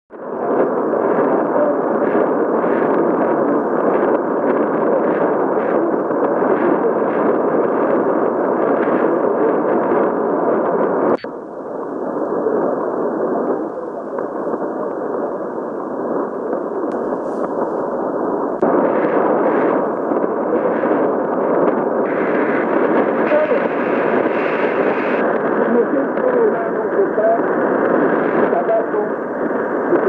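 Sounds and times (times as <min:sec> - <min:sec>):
radio static hiss: 0:00.1 - 0:30.0
weak radio signal: 0:00.1 - 0:30.0.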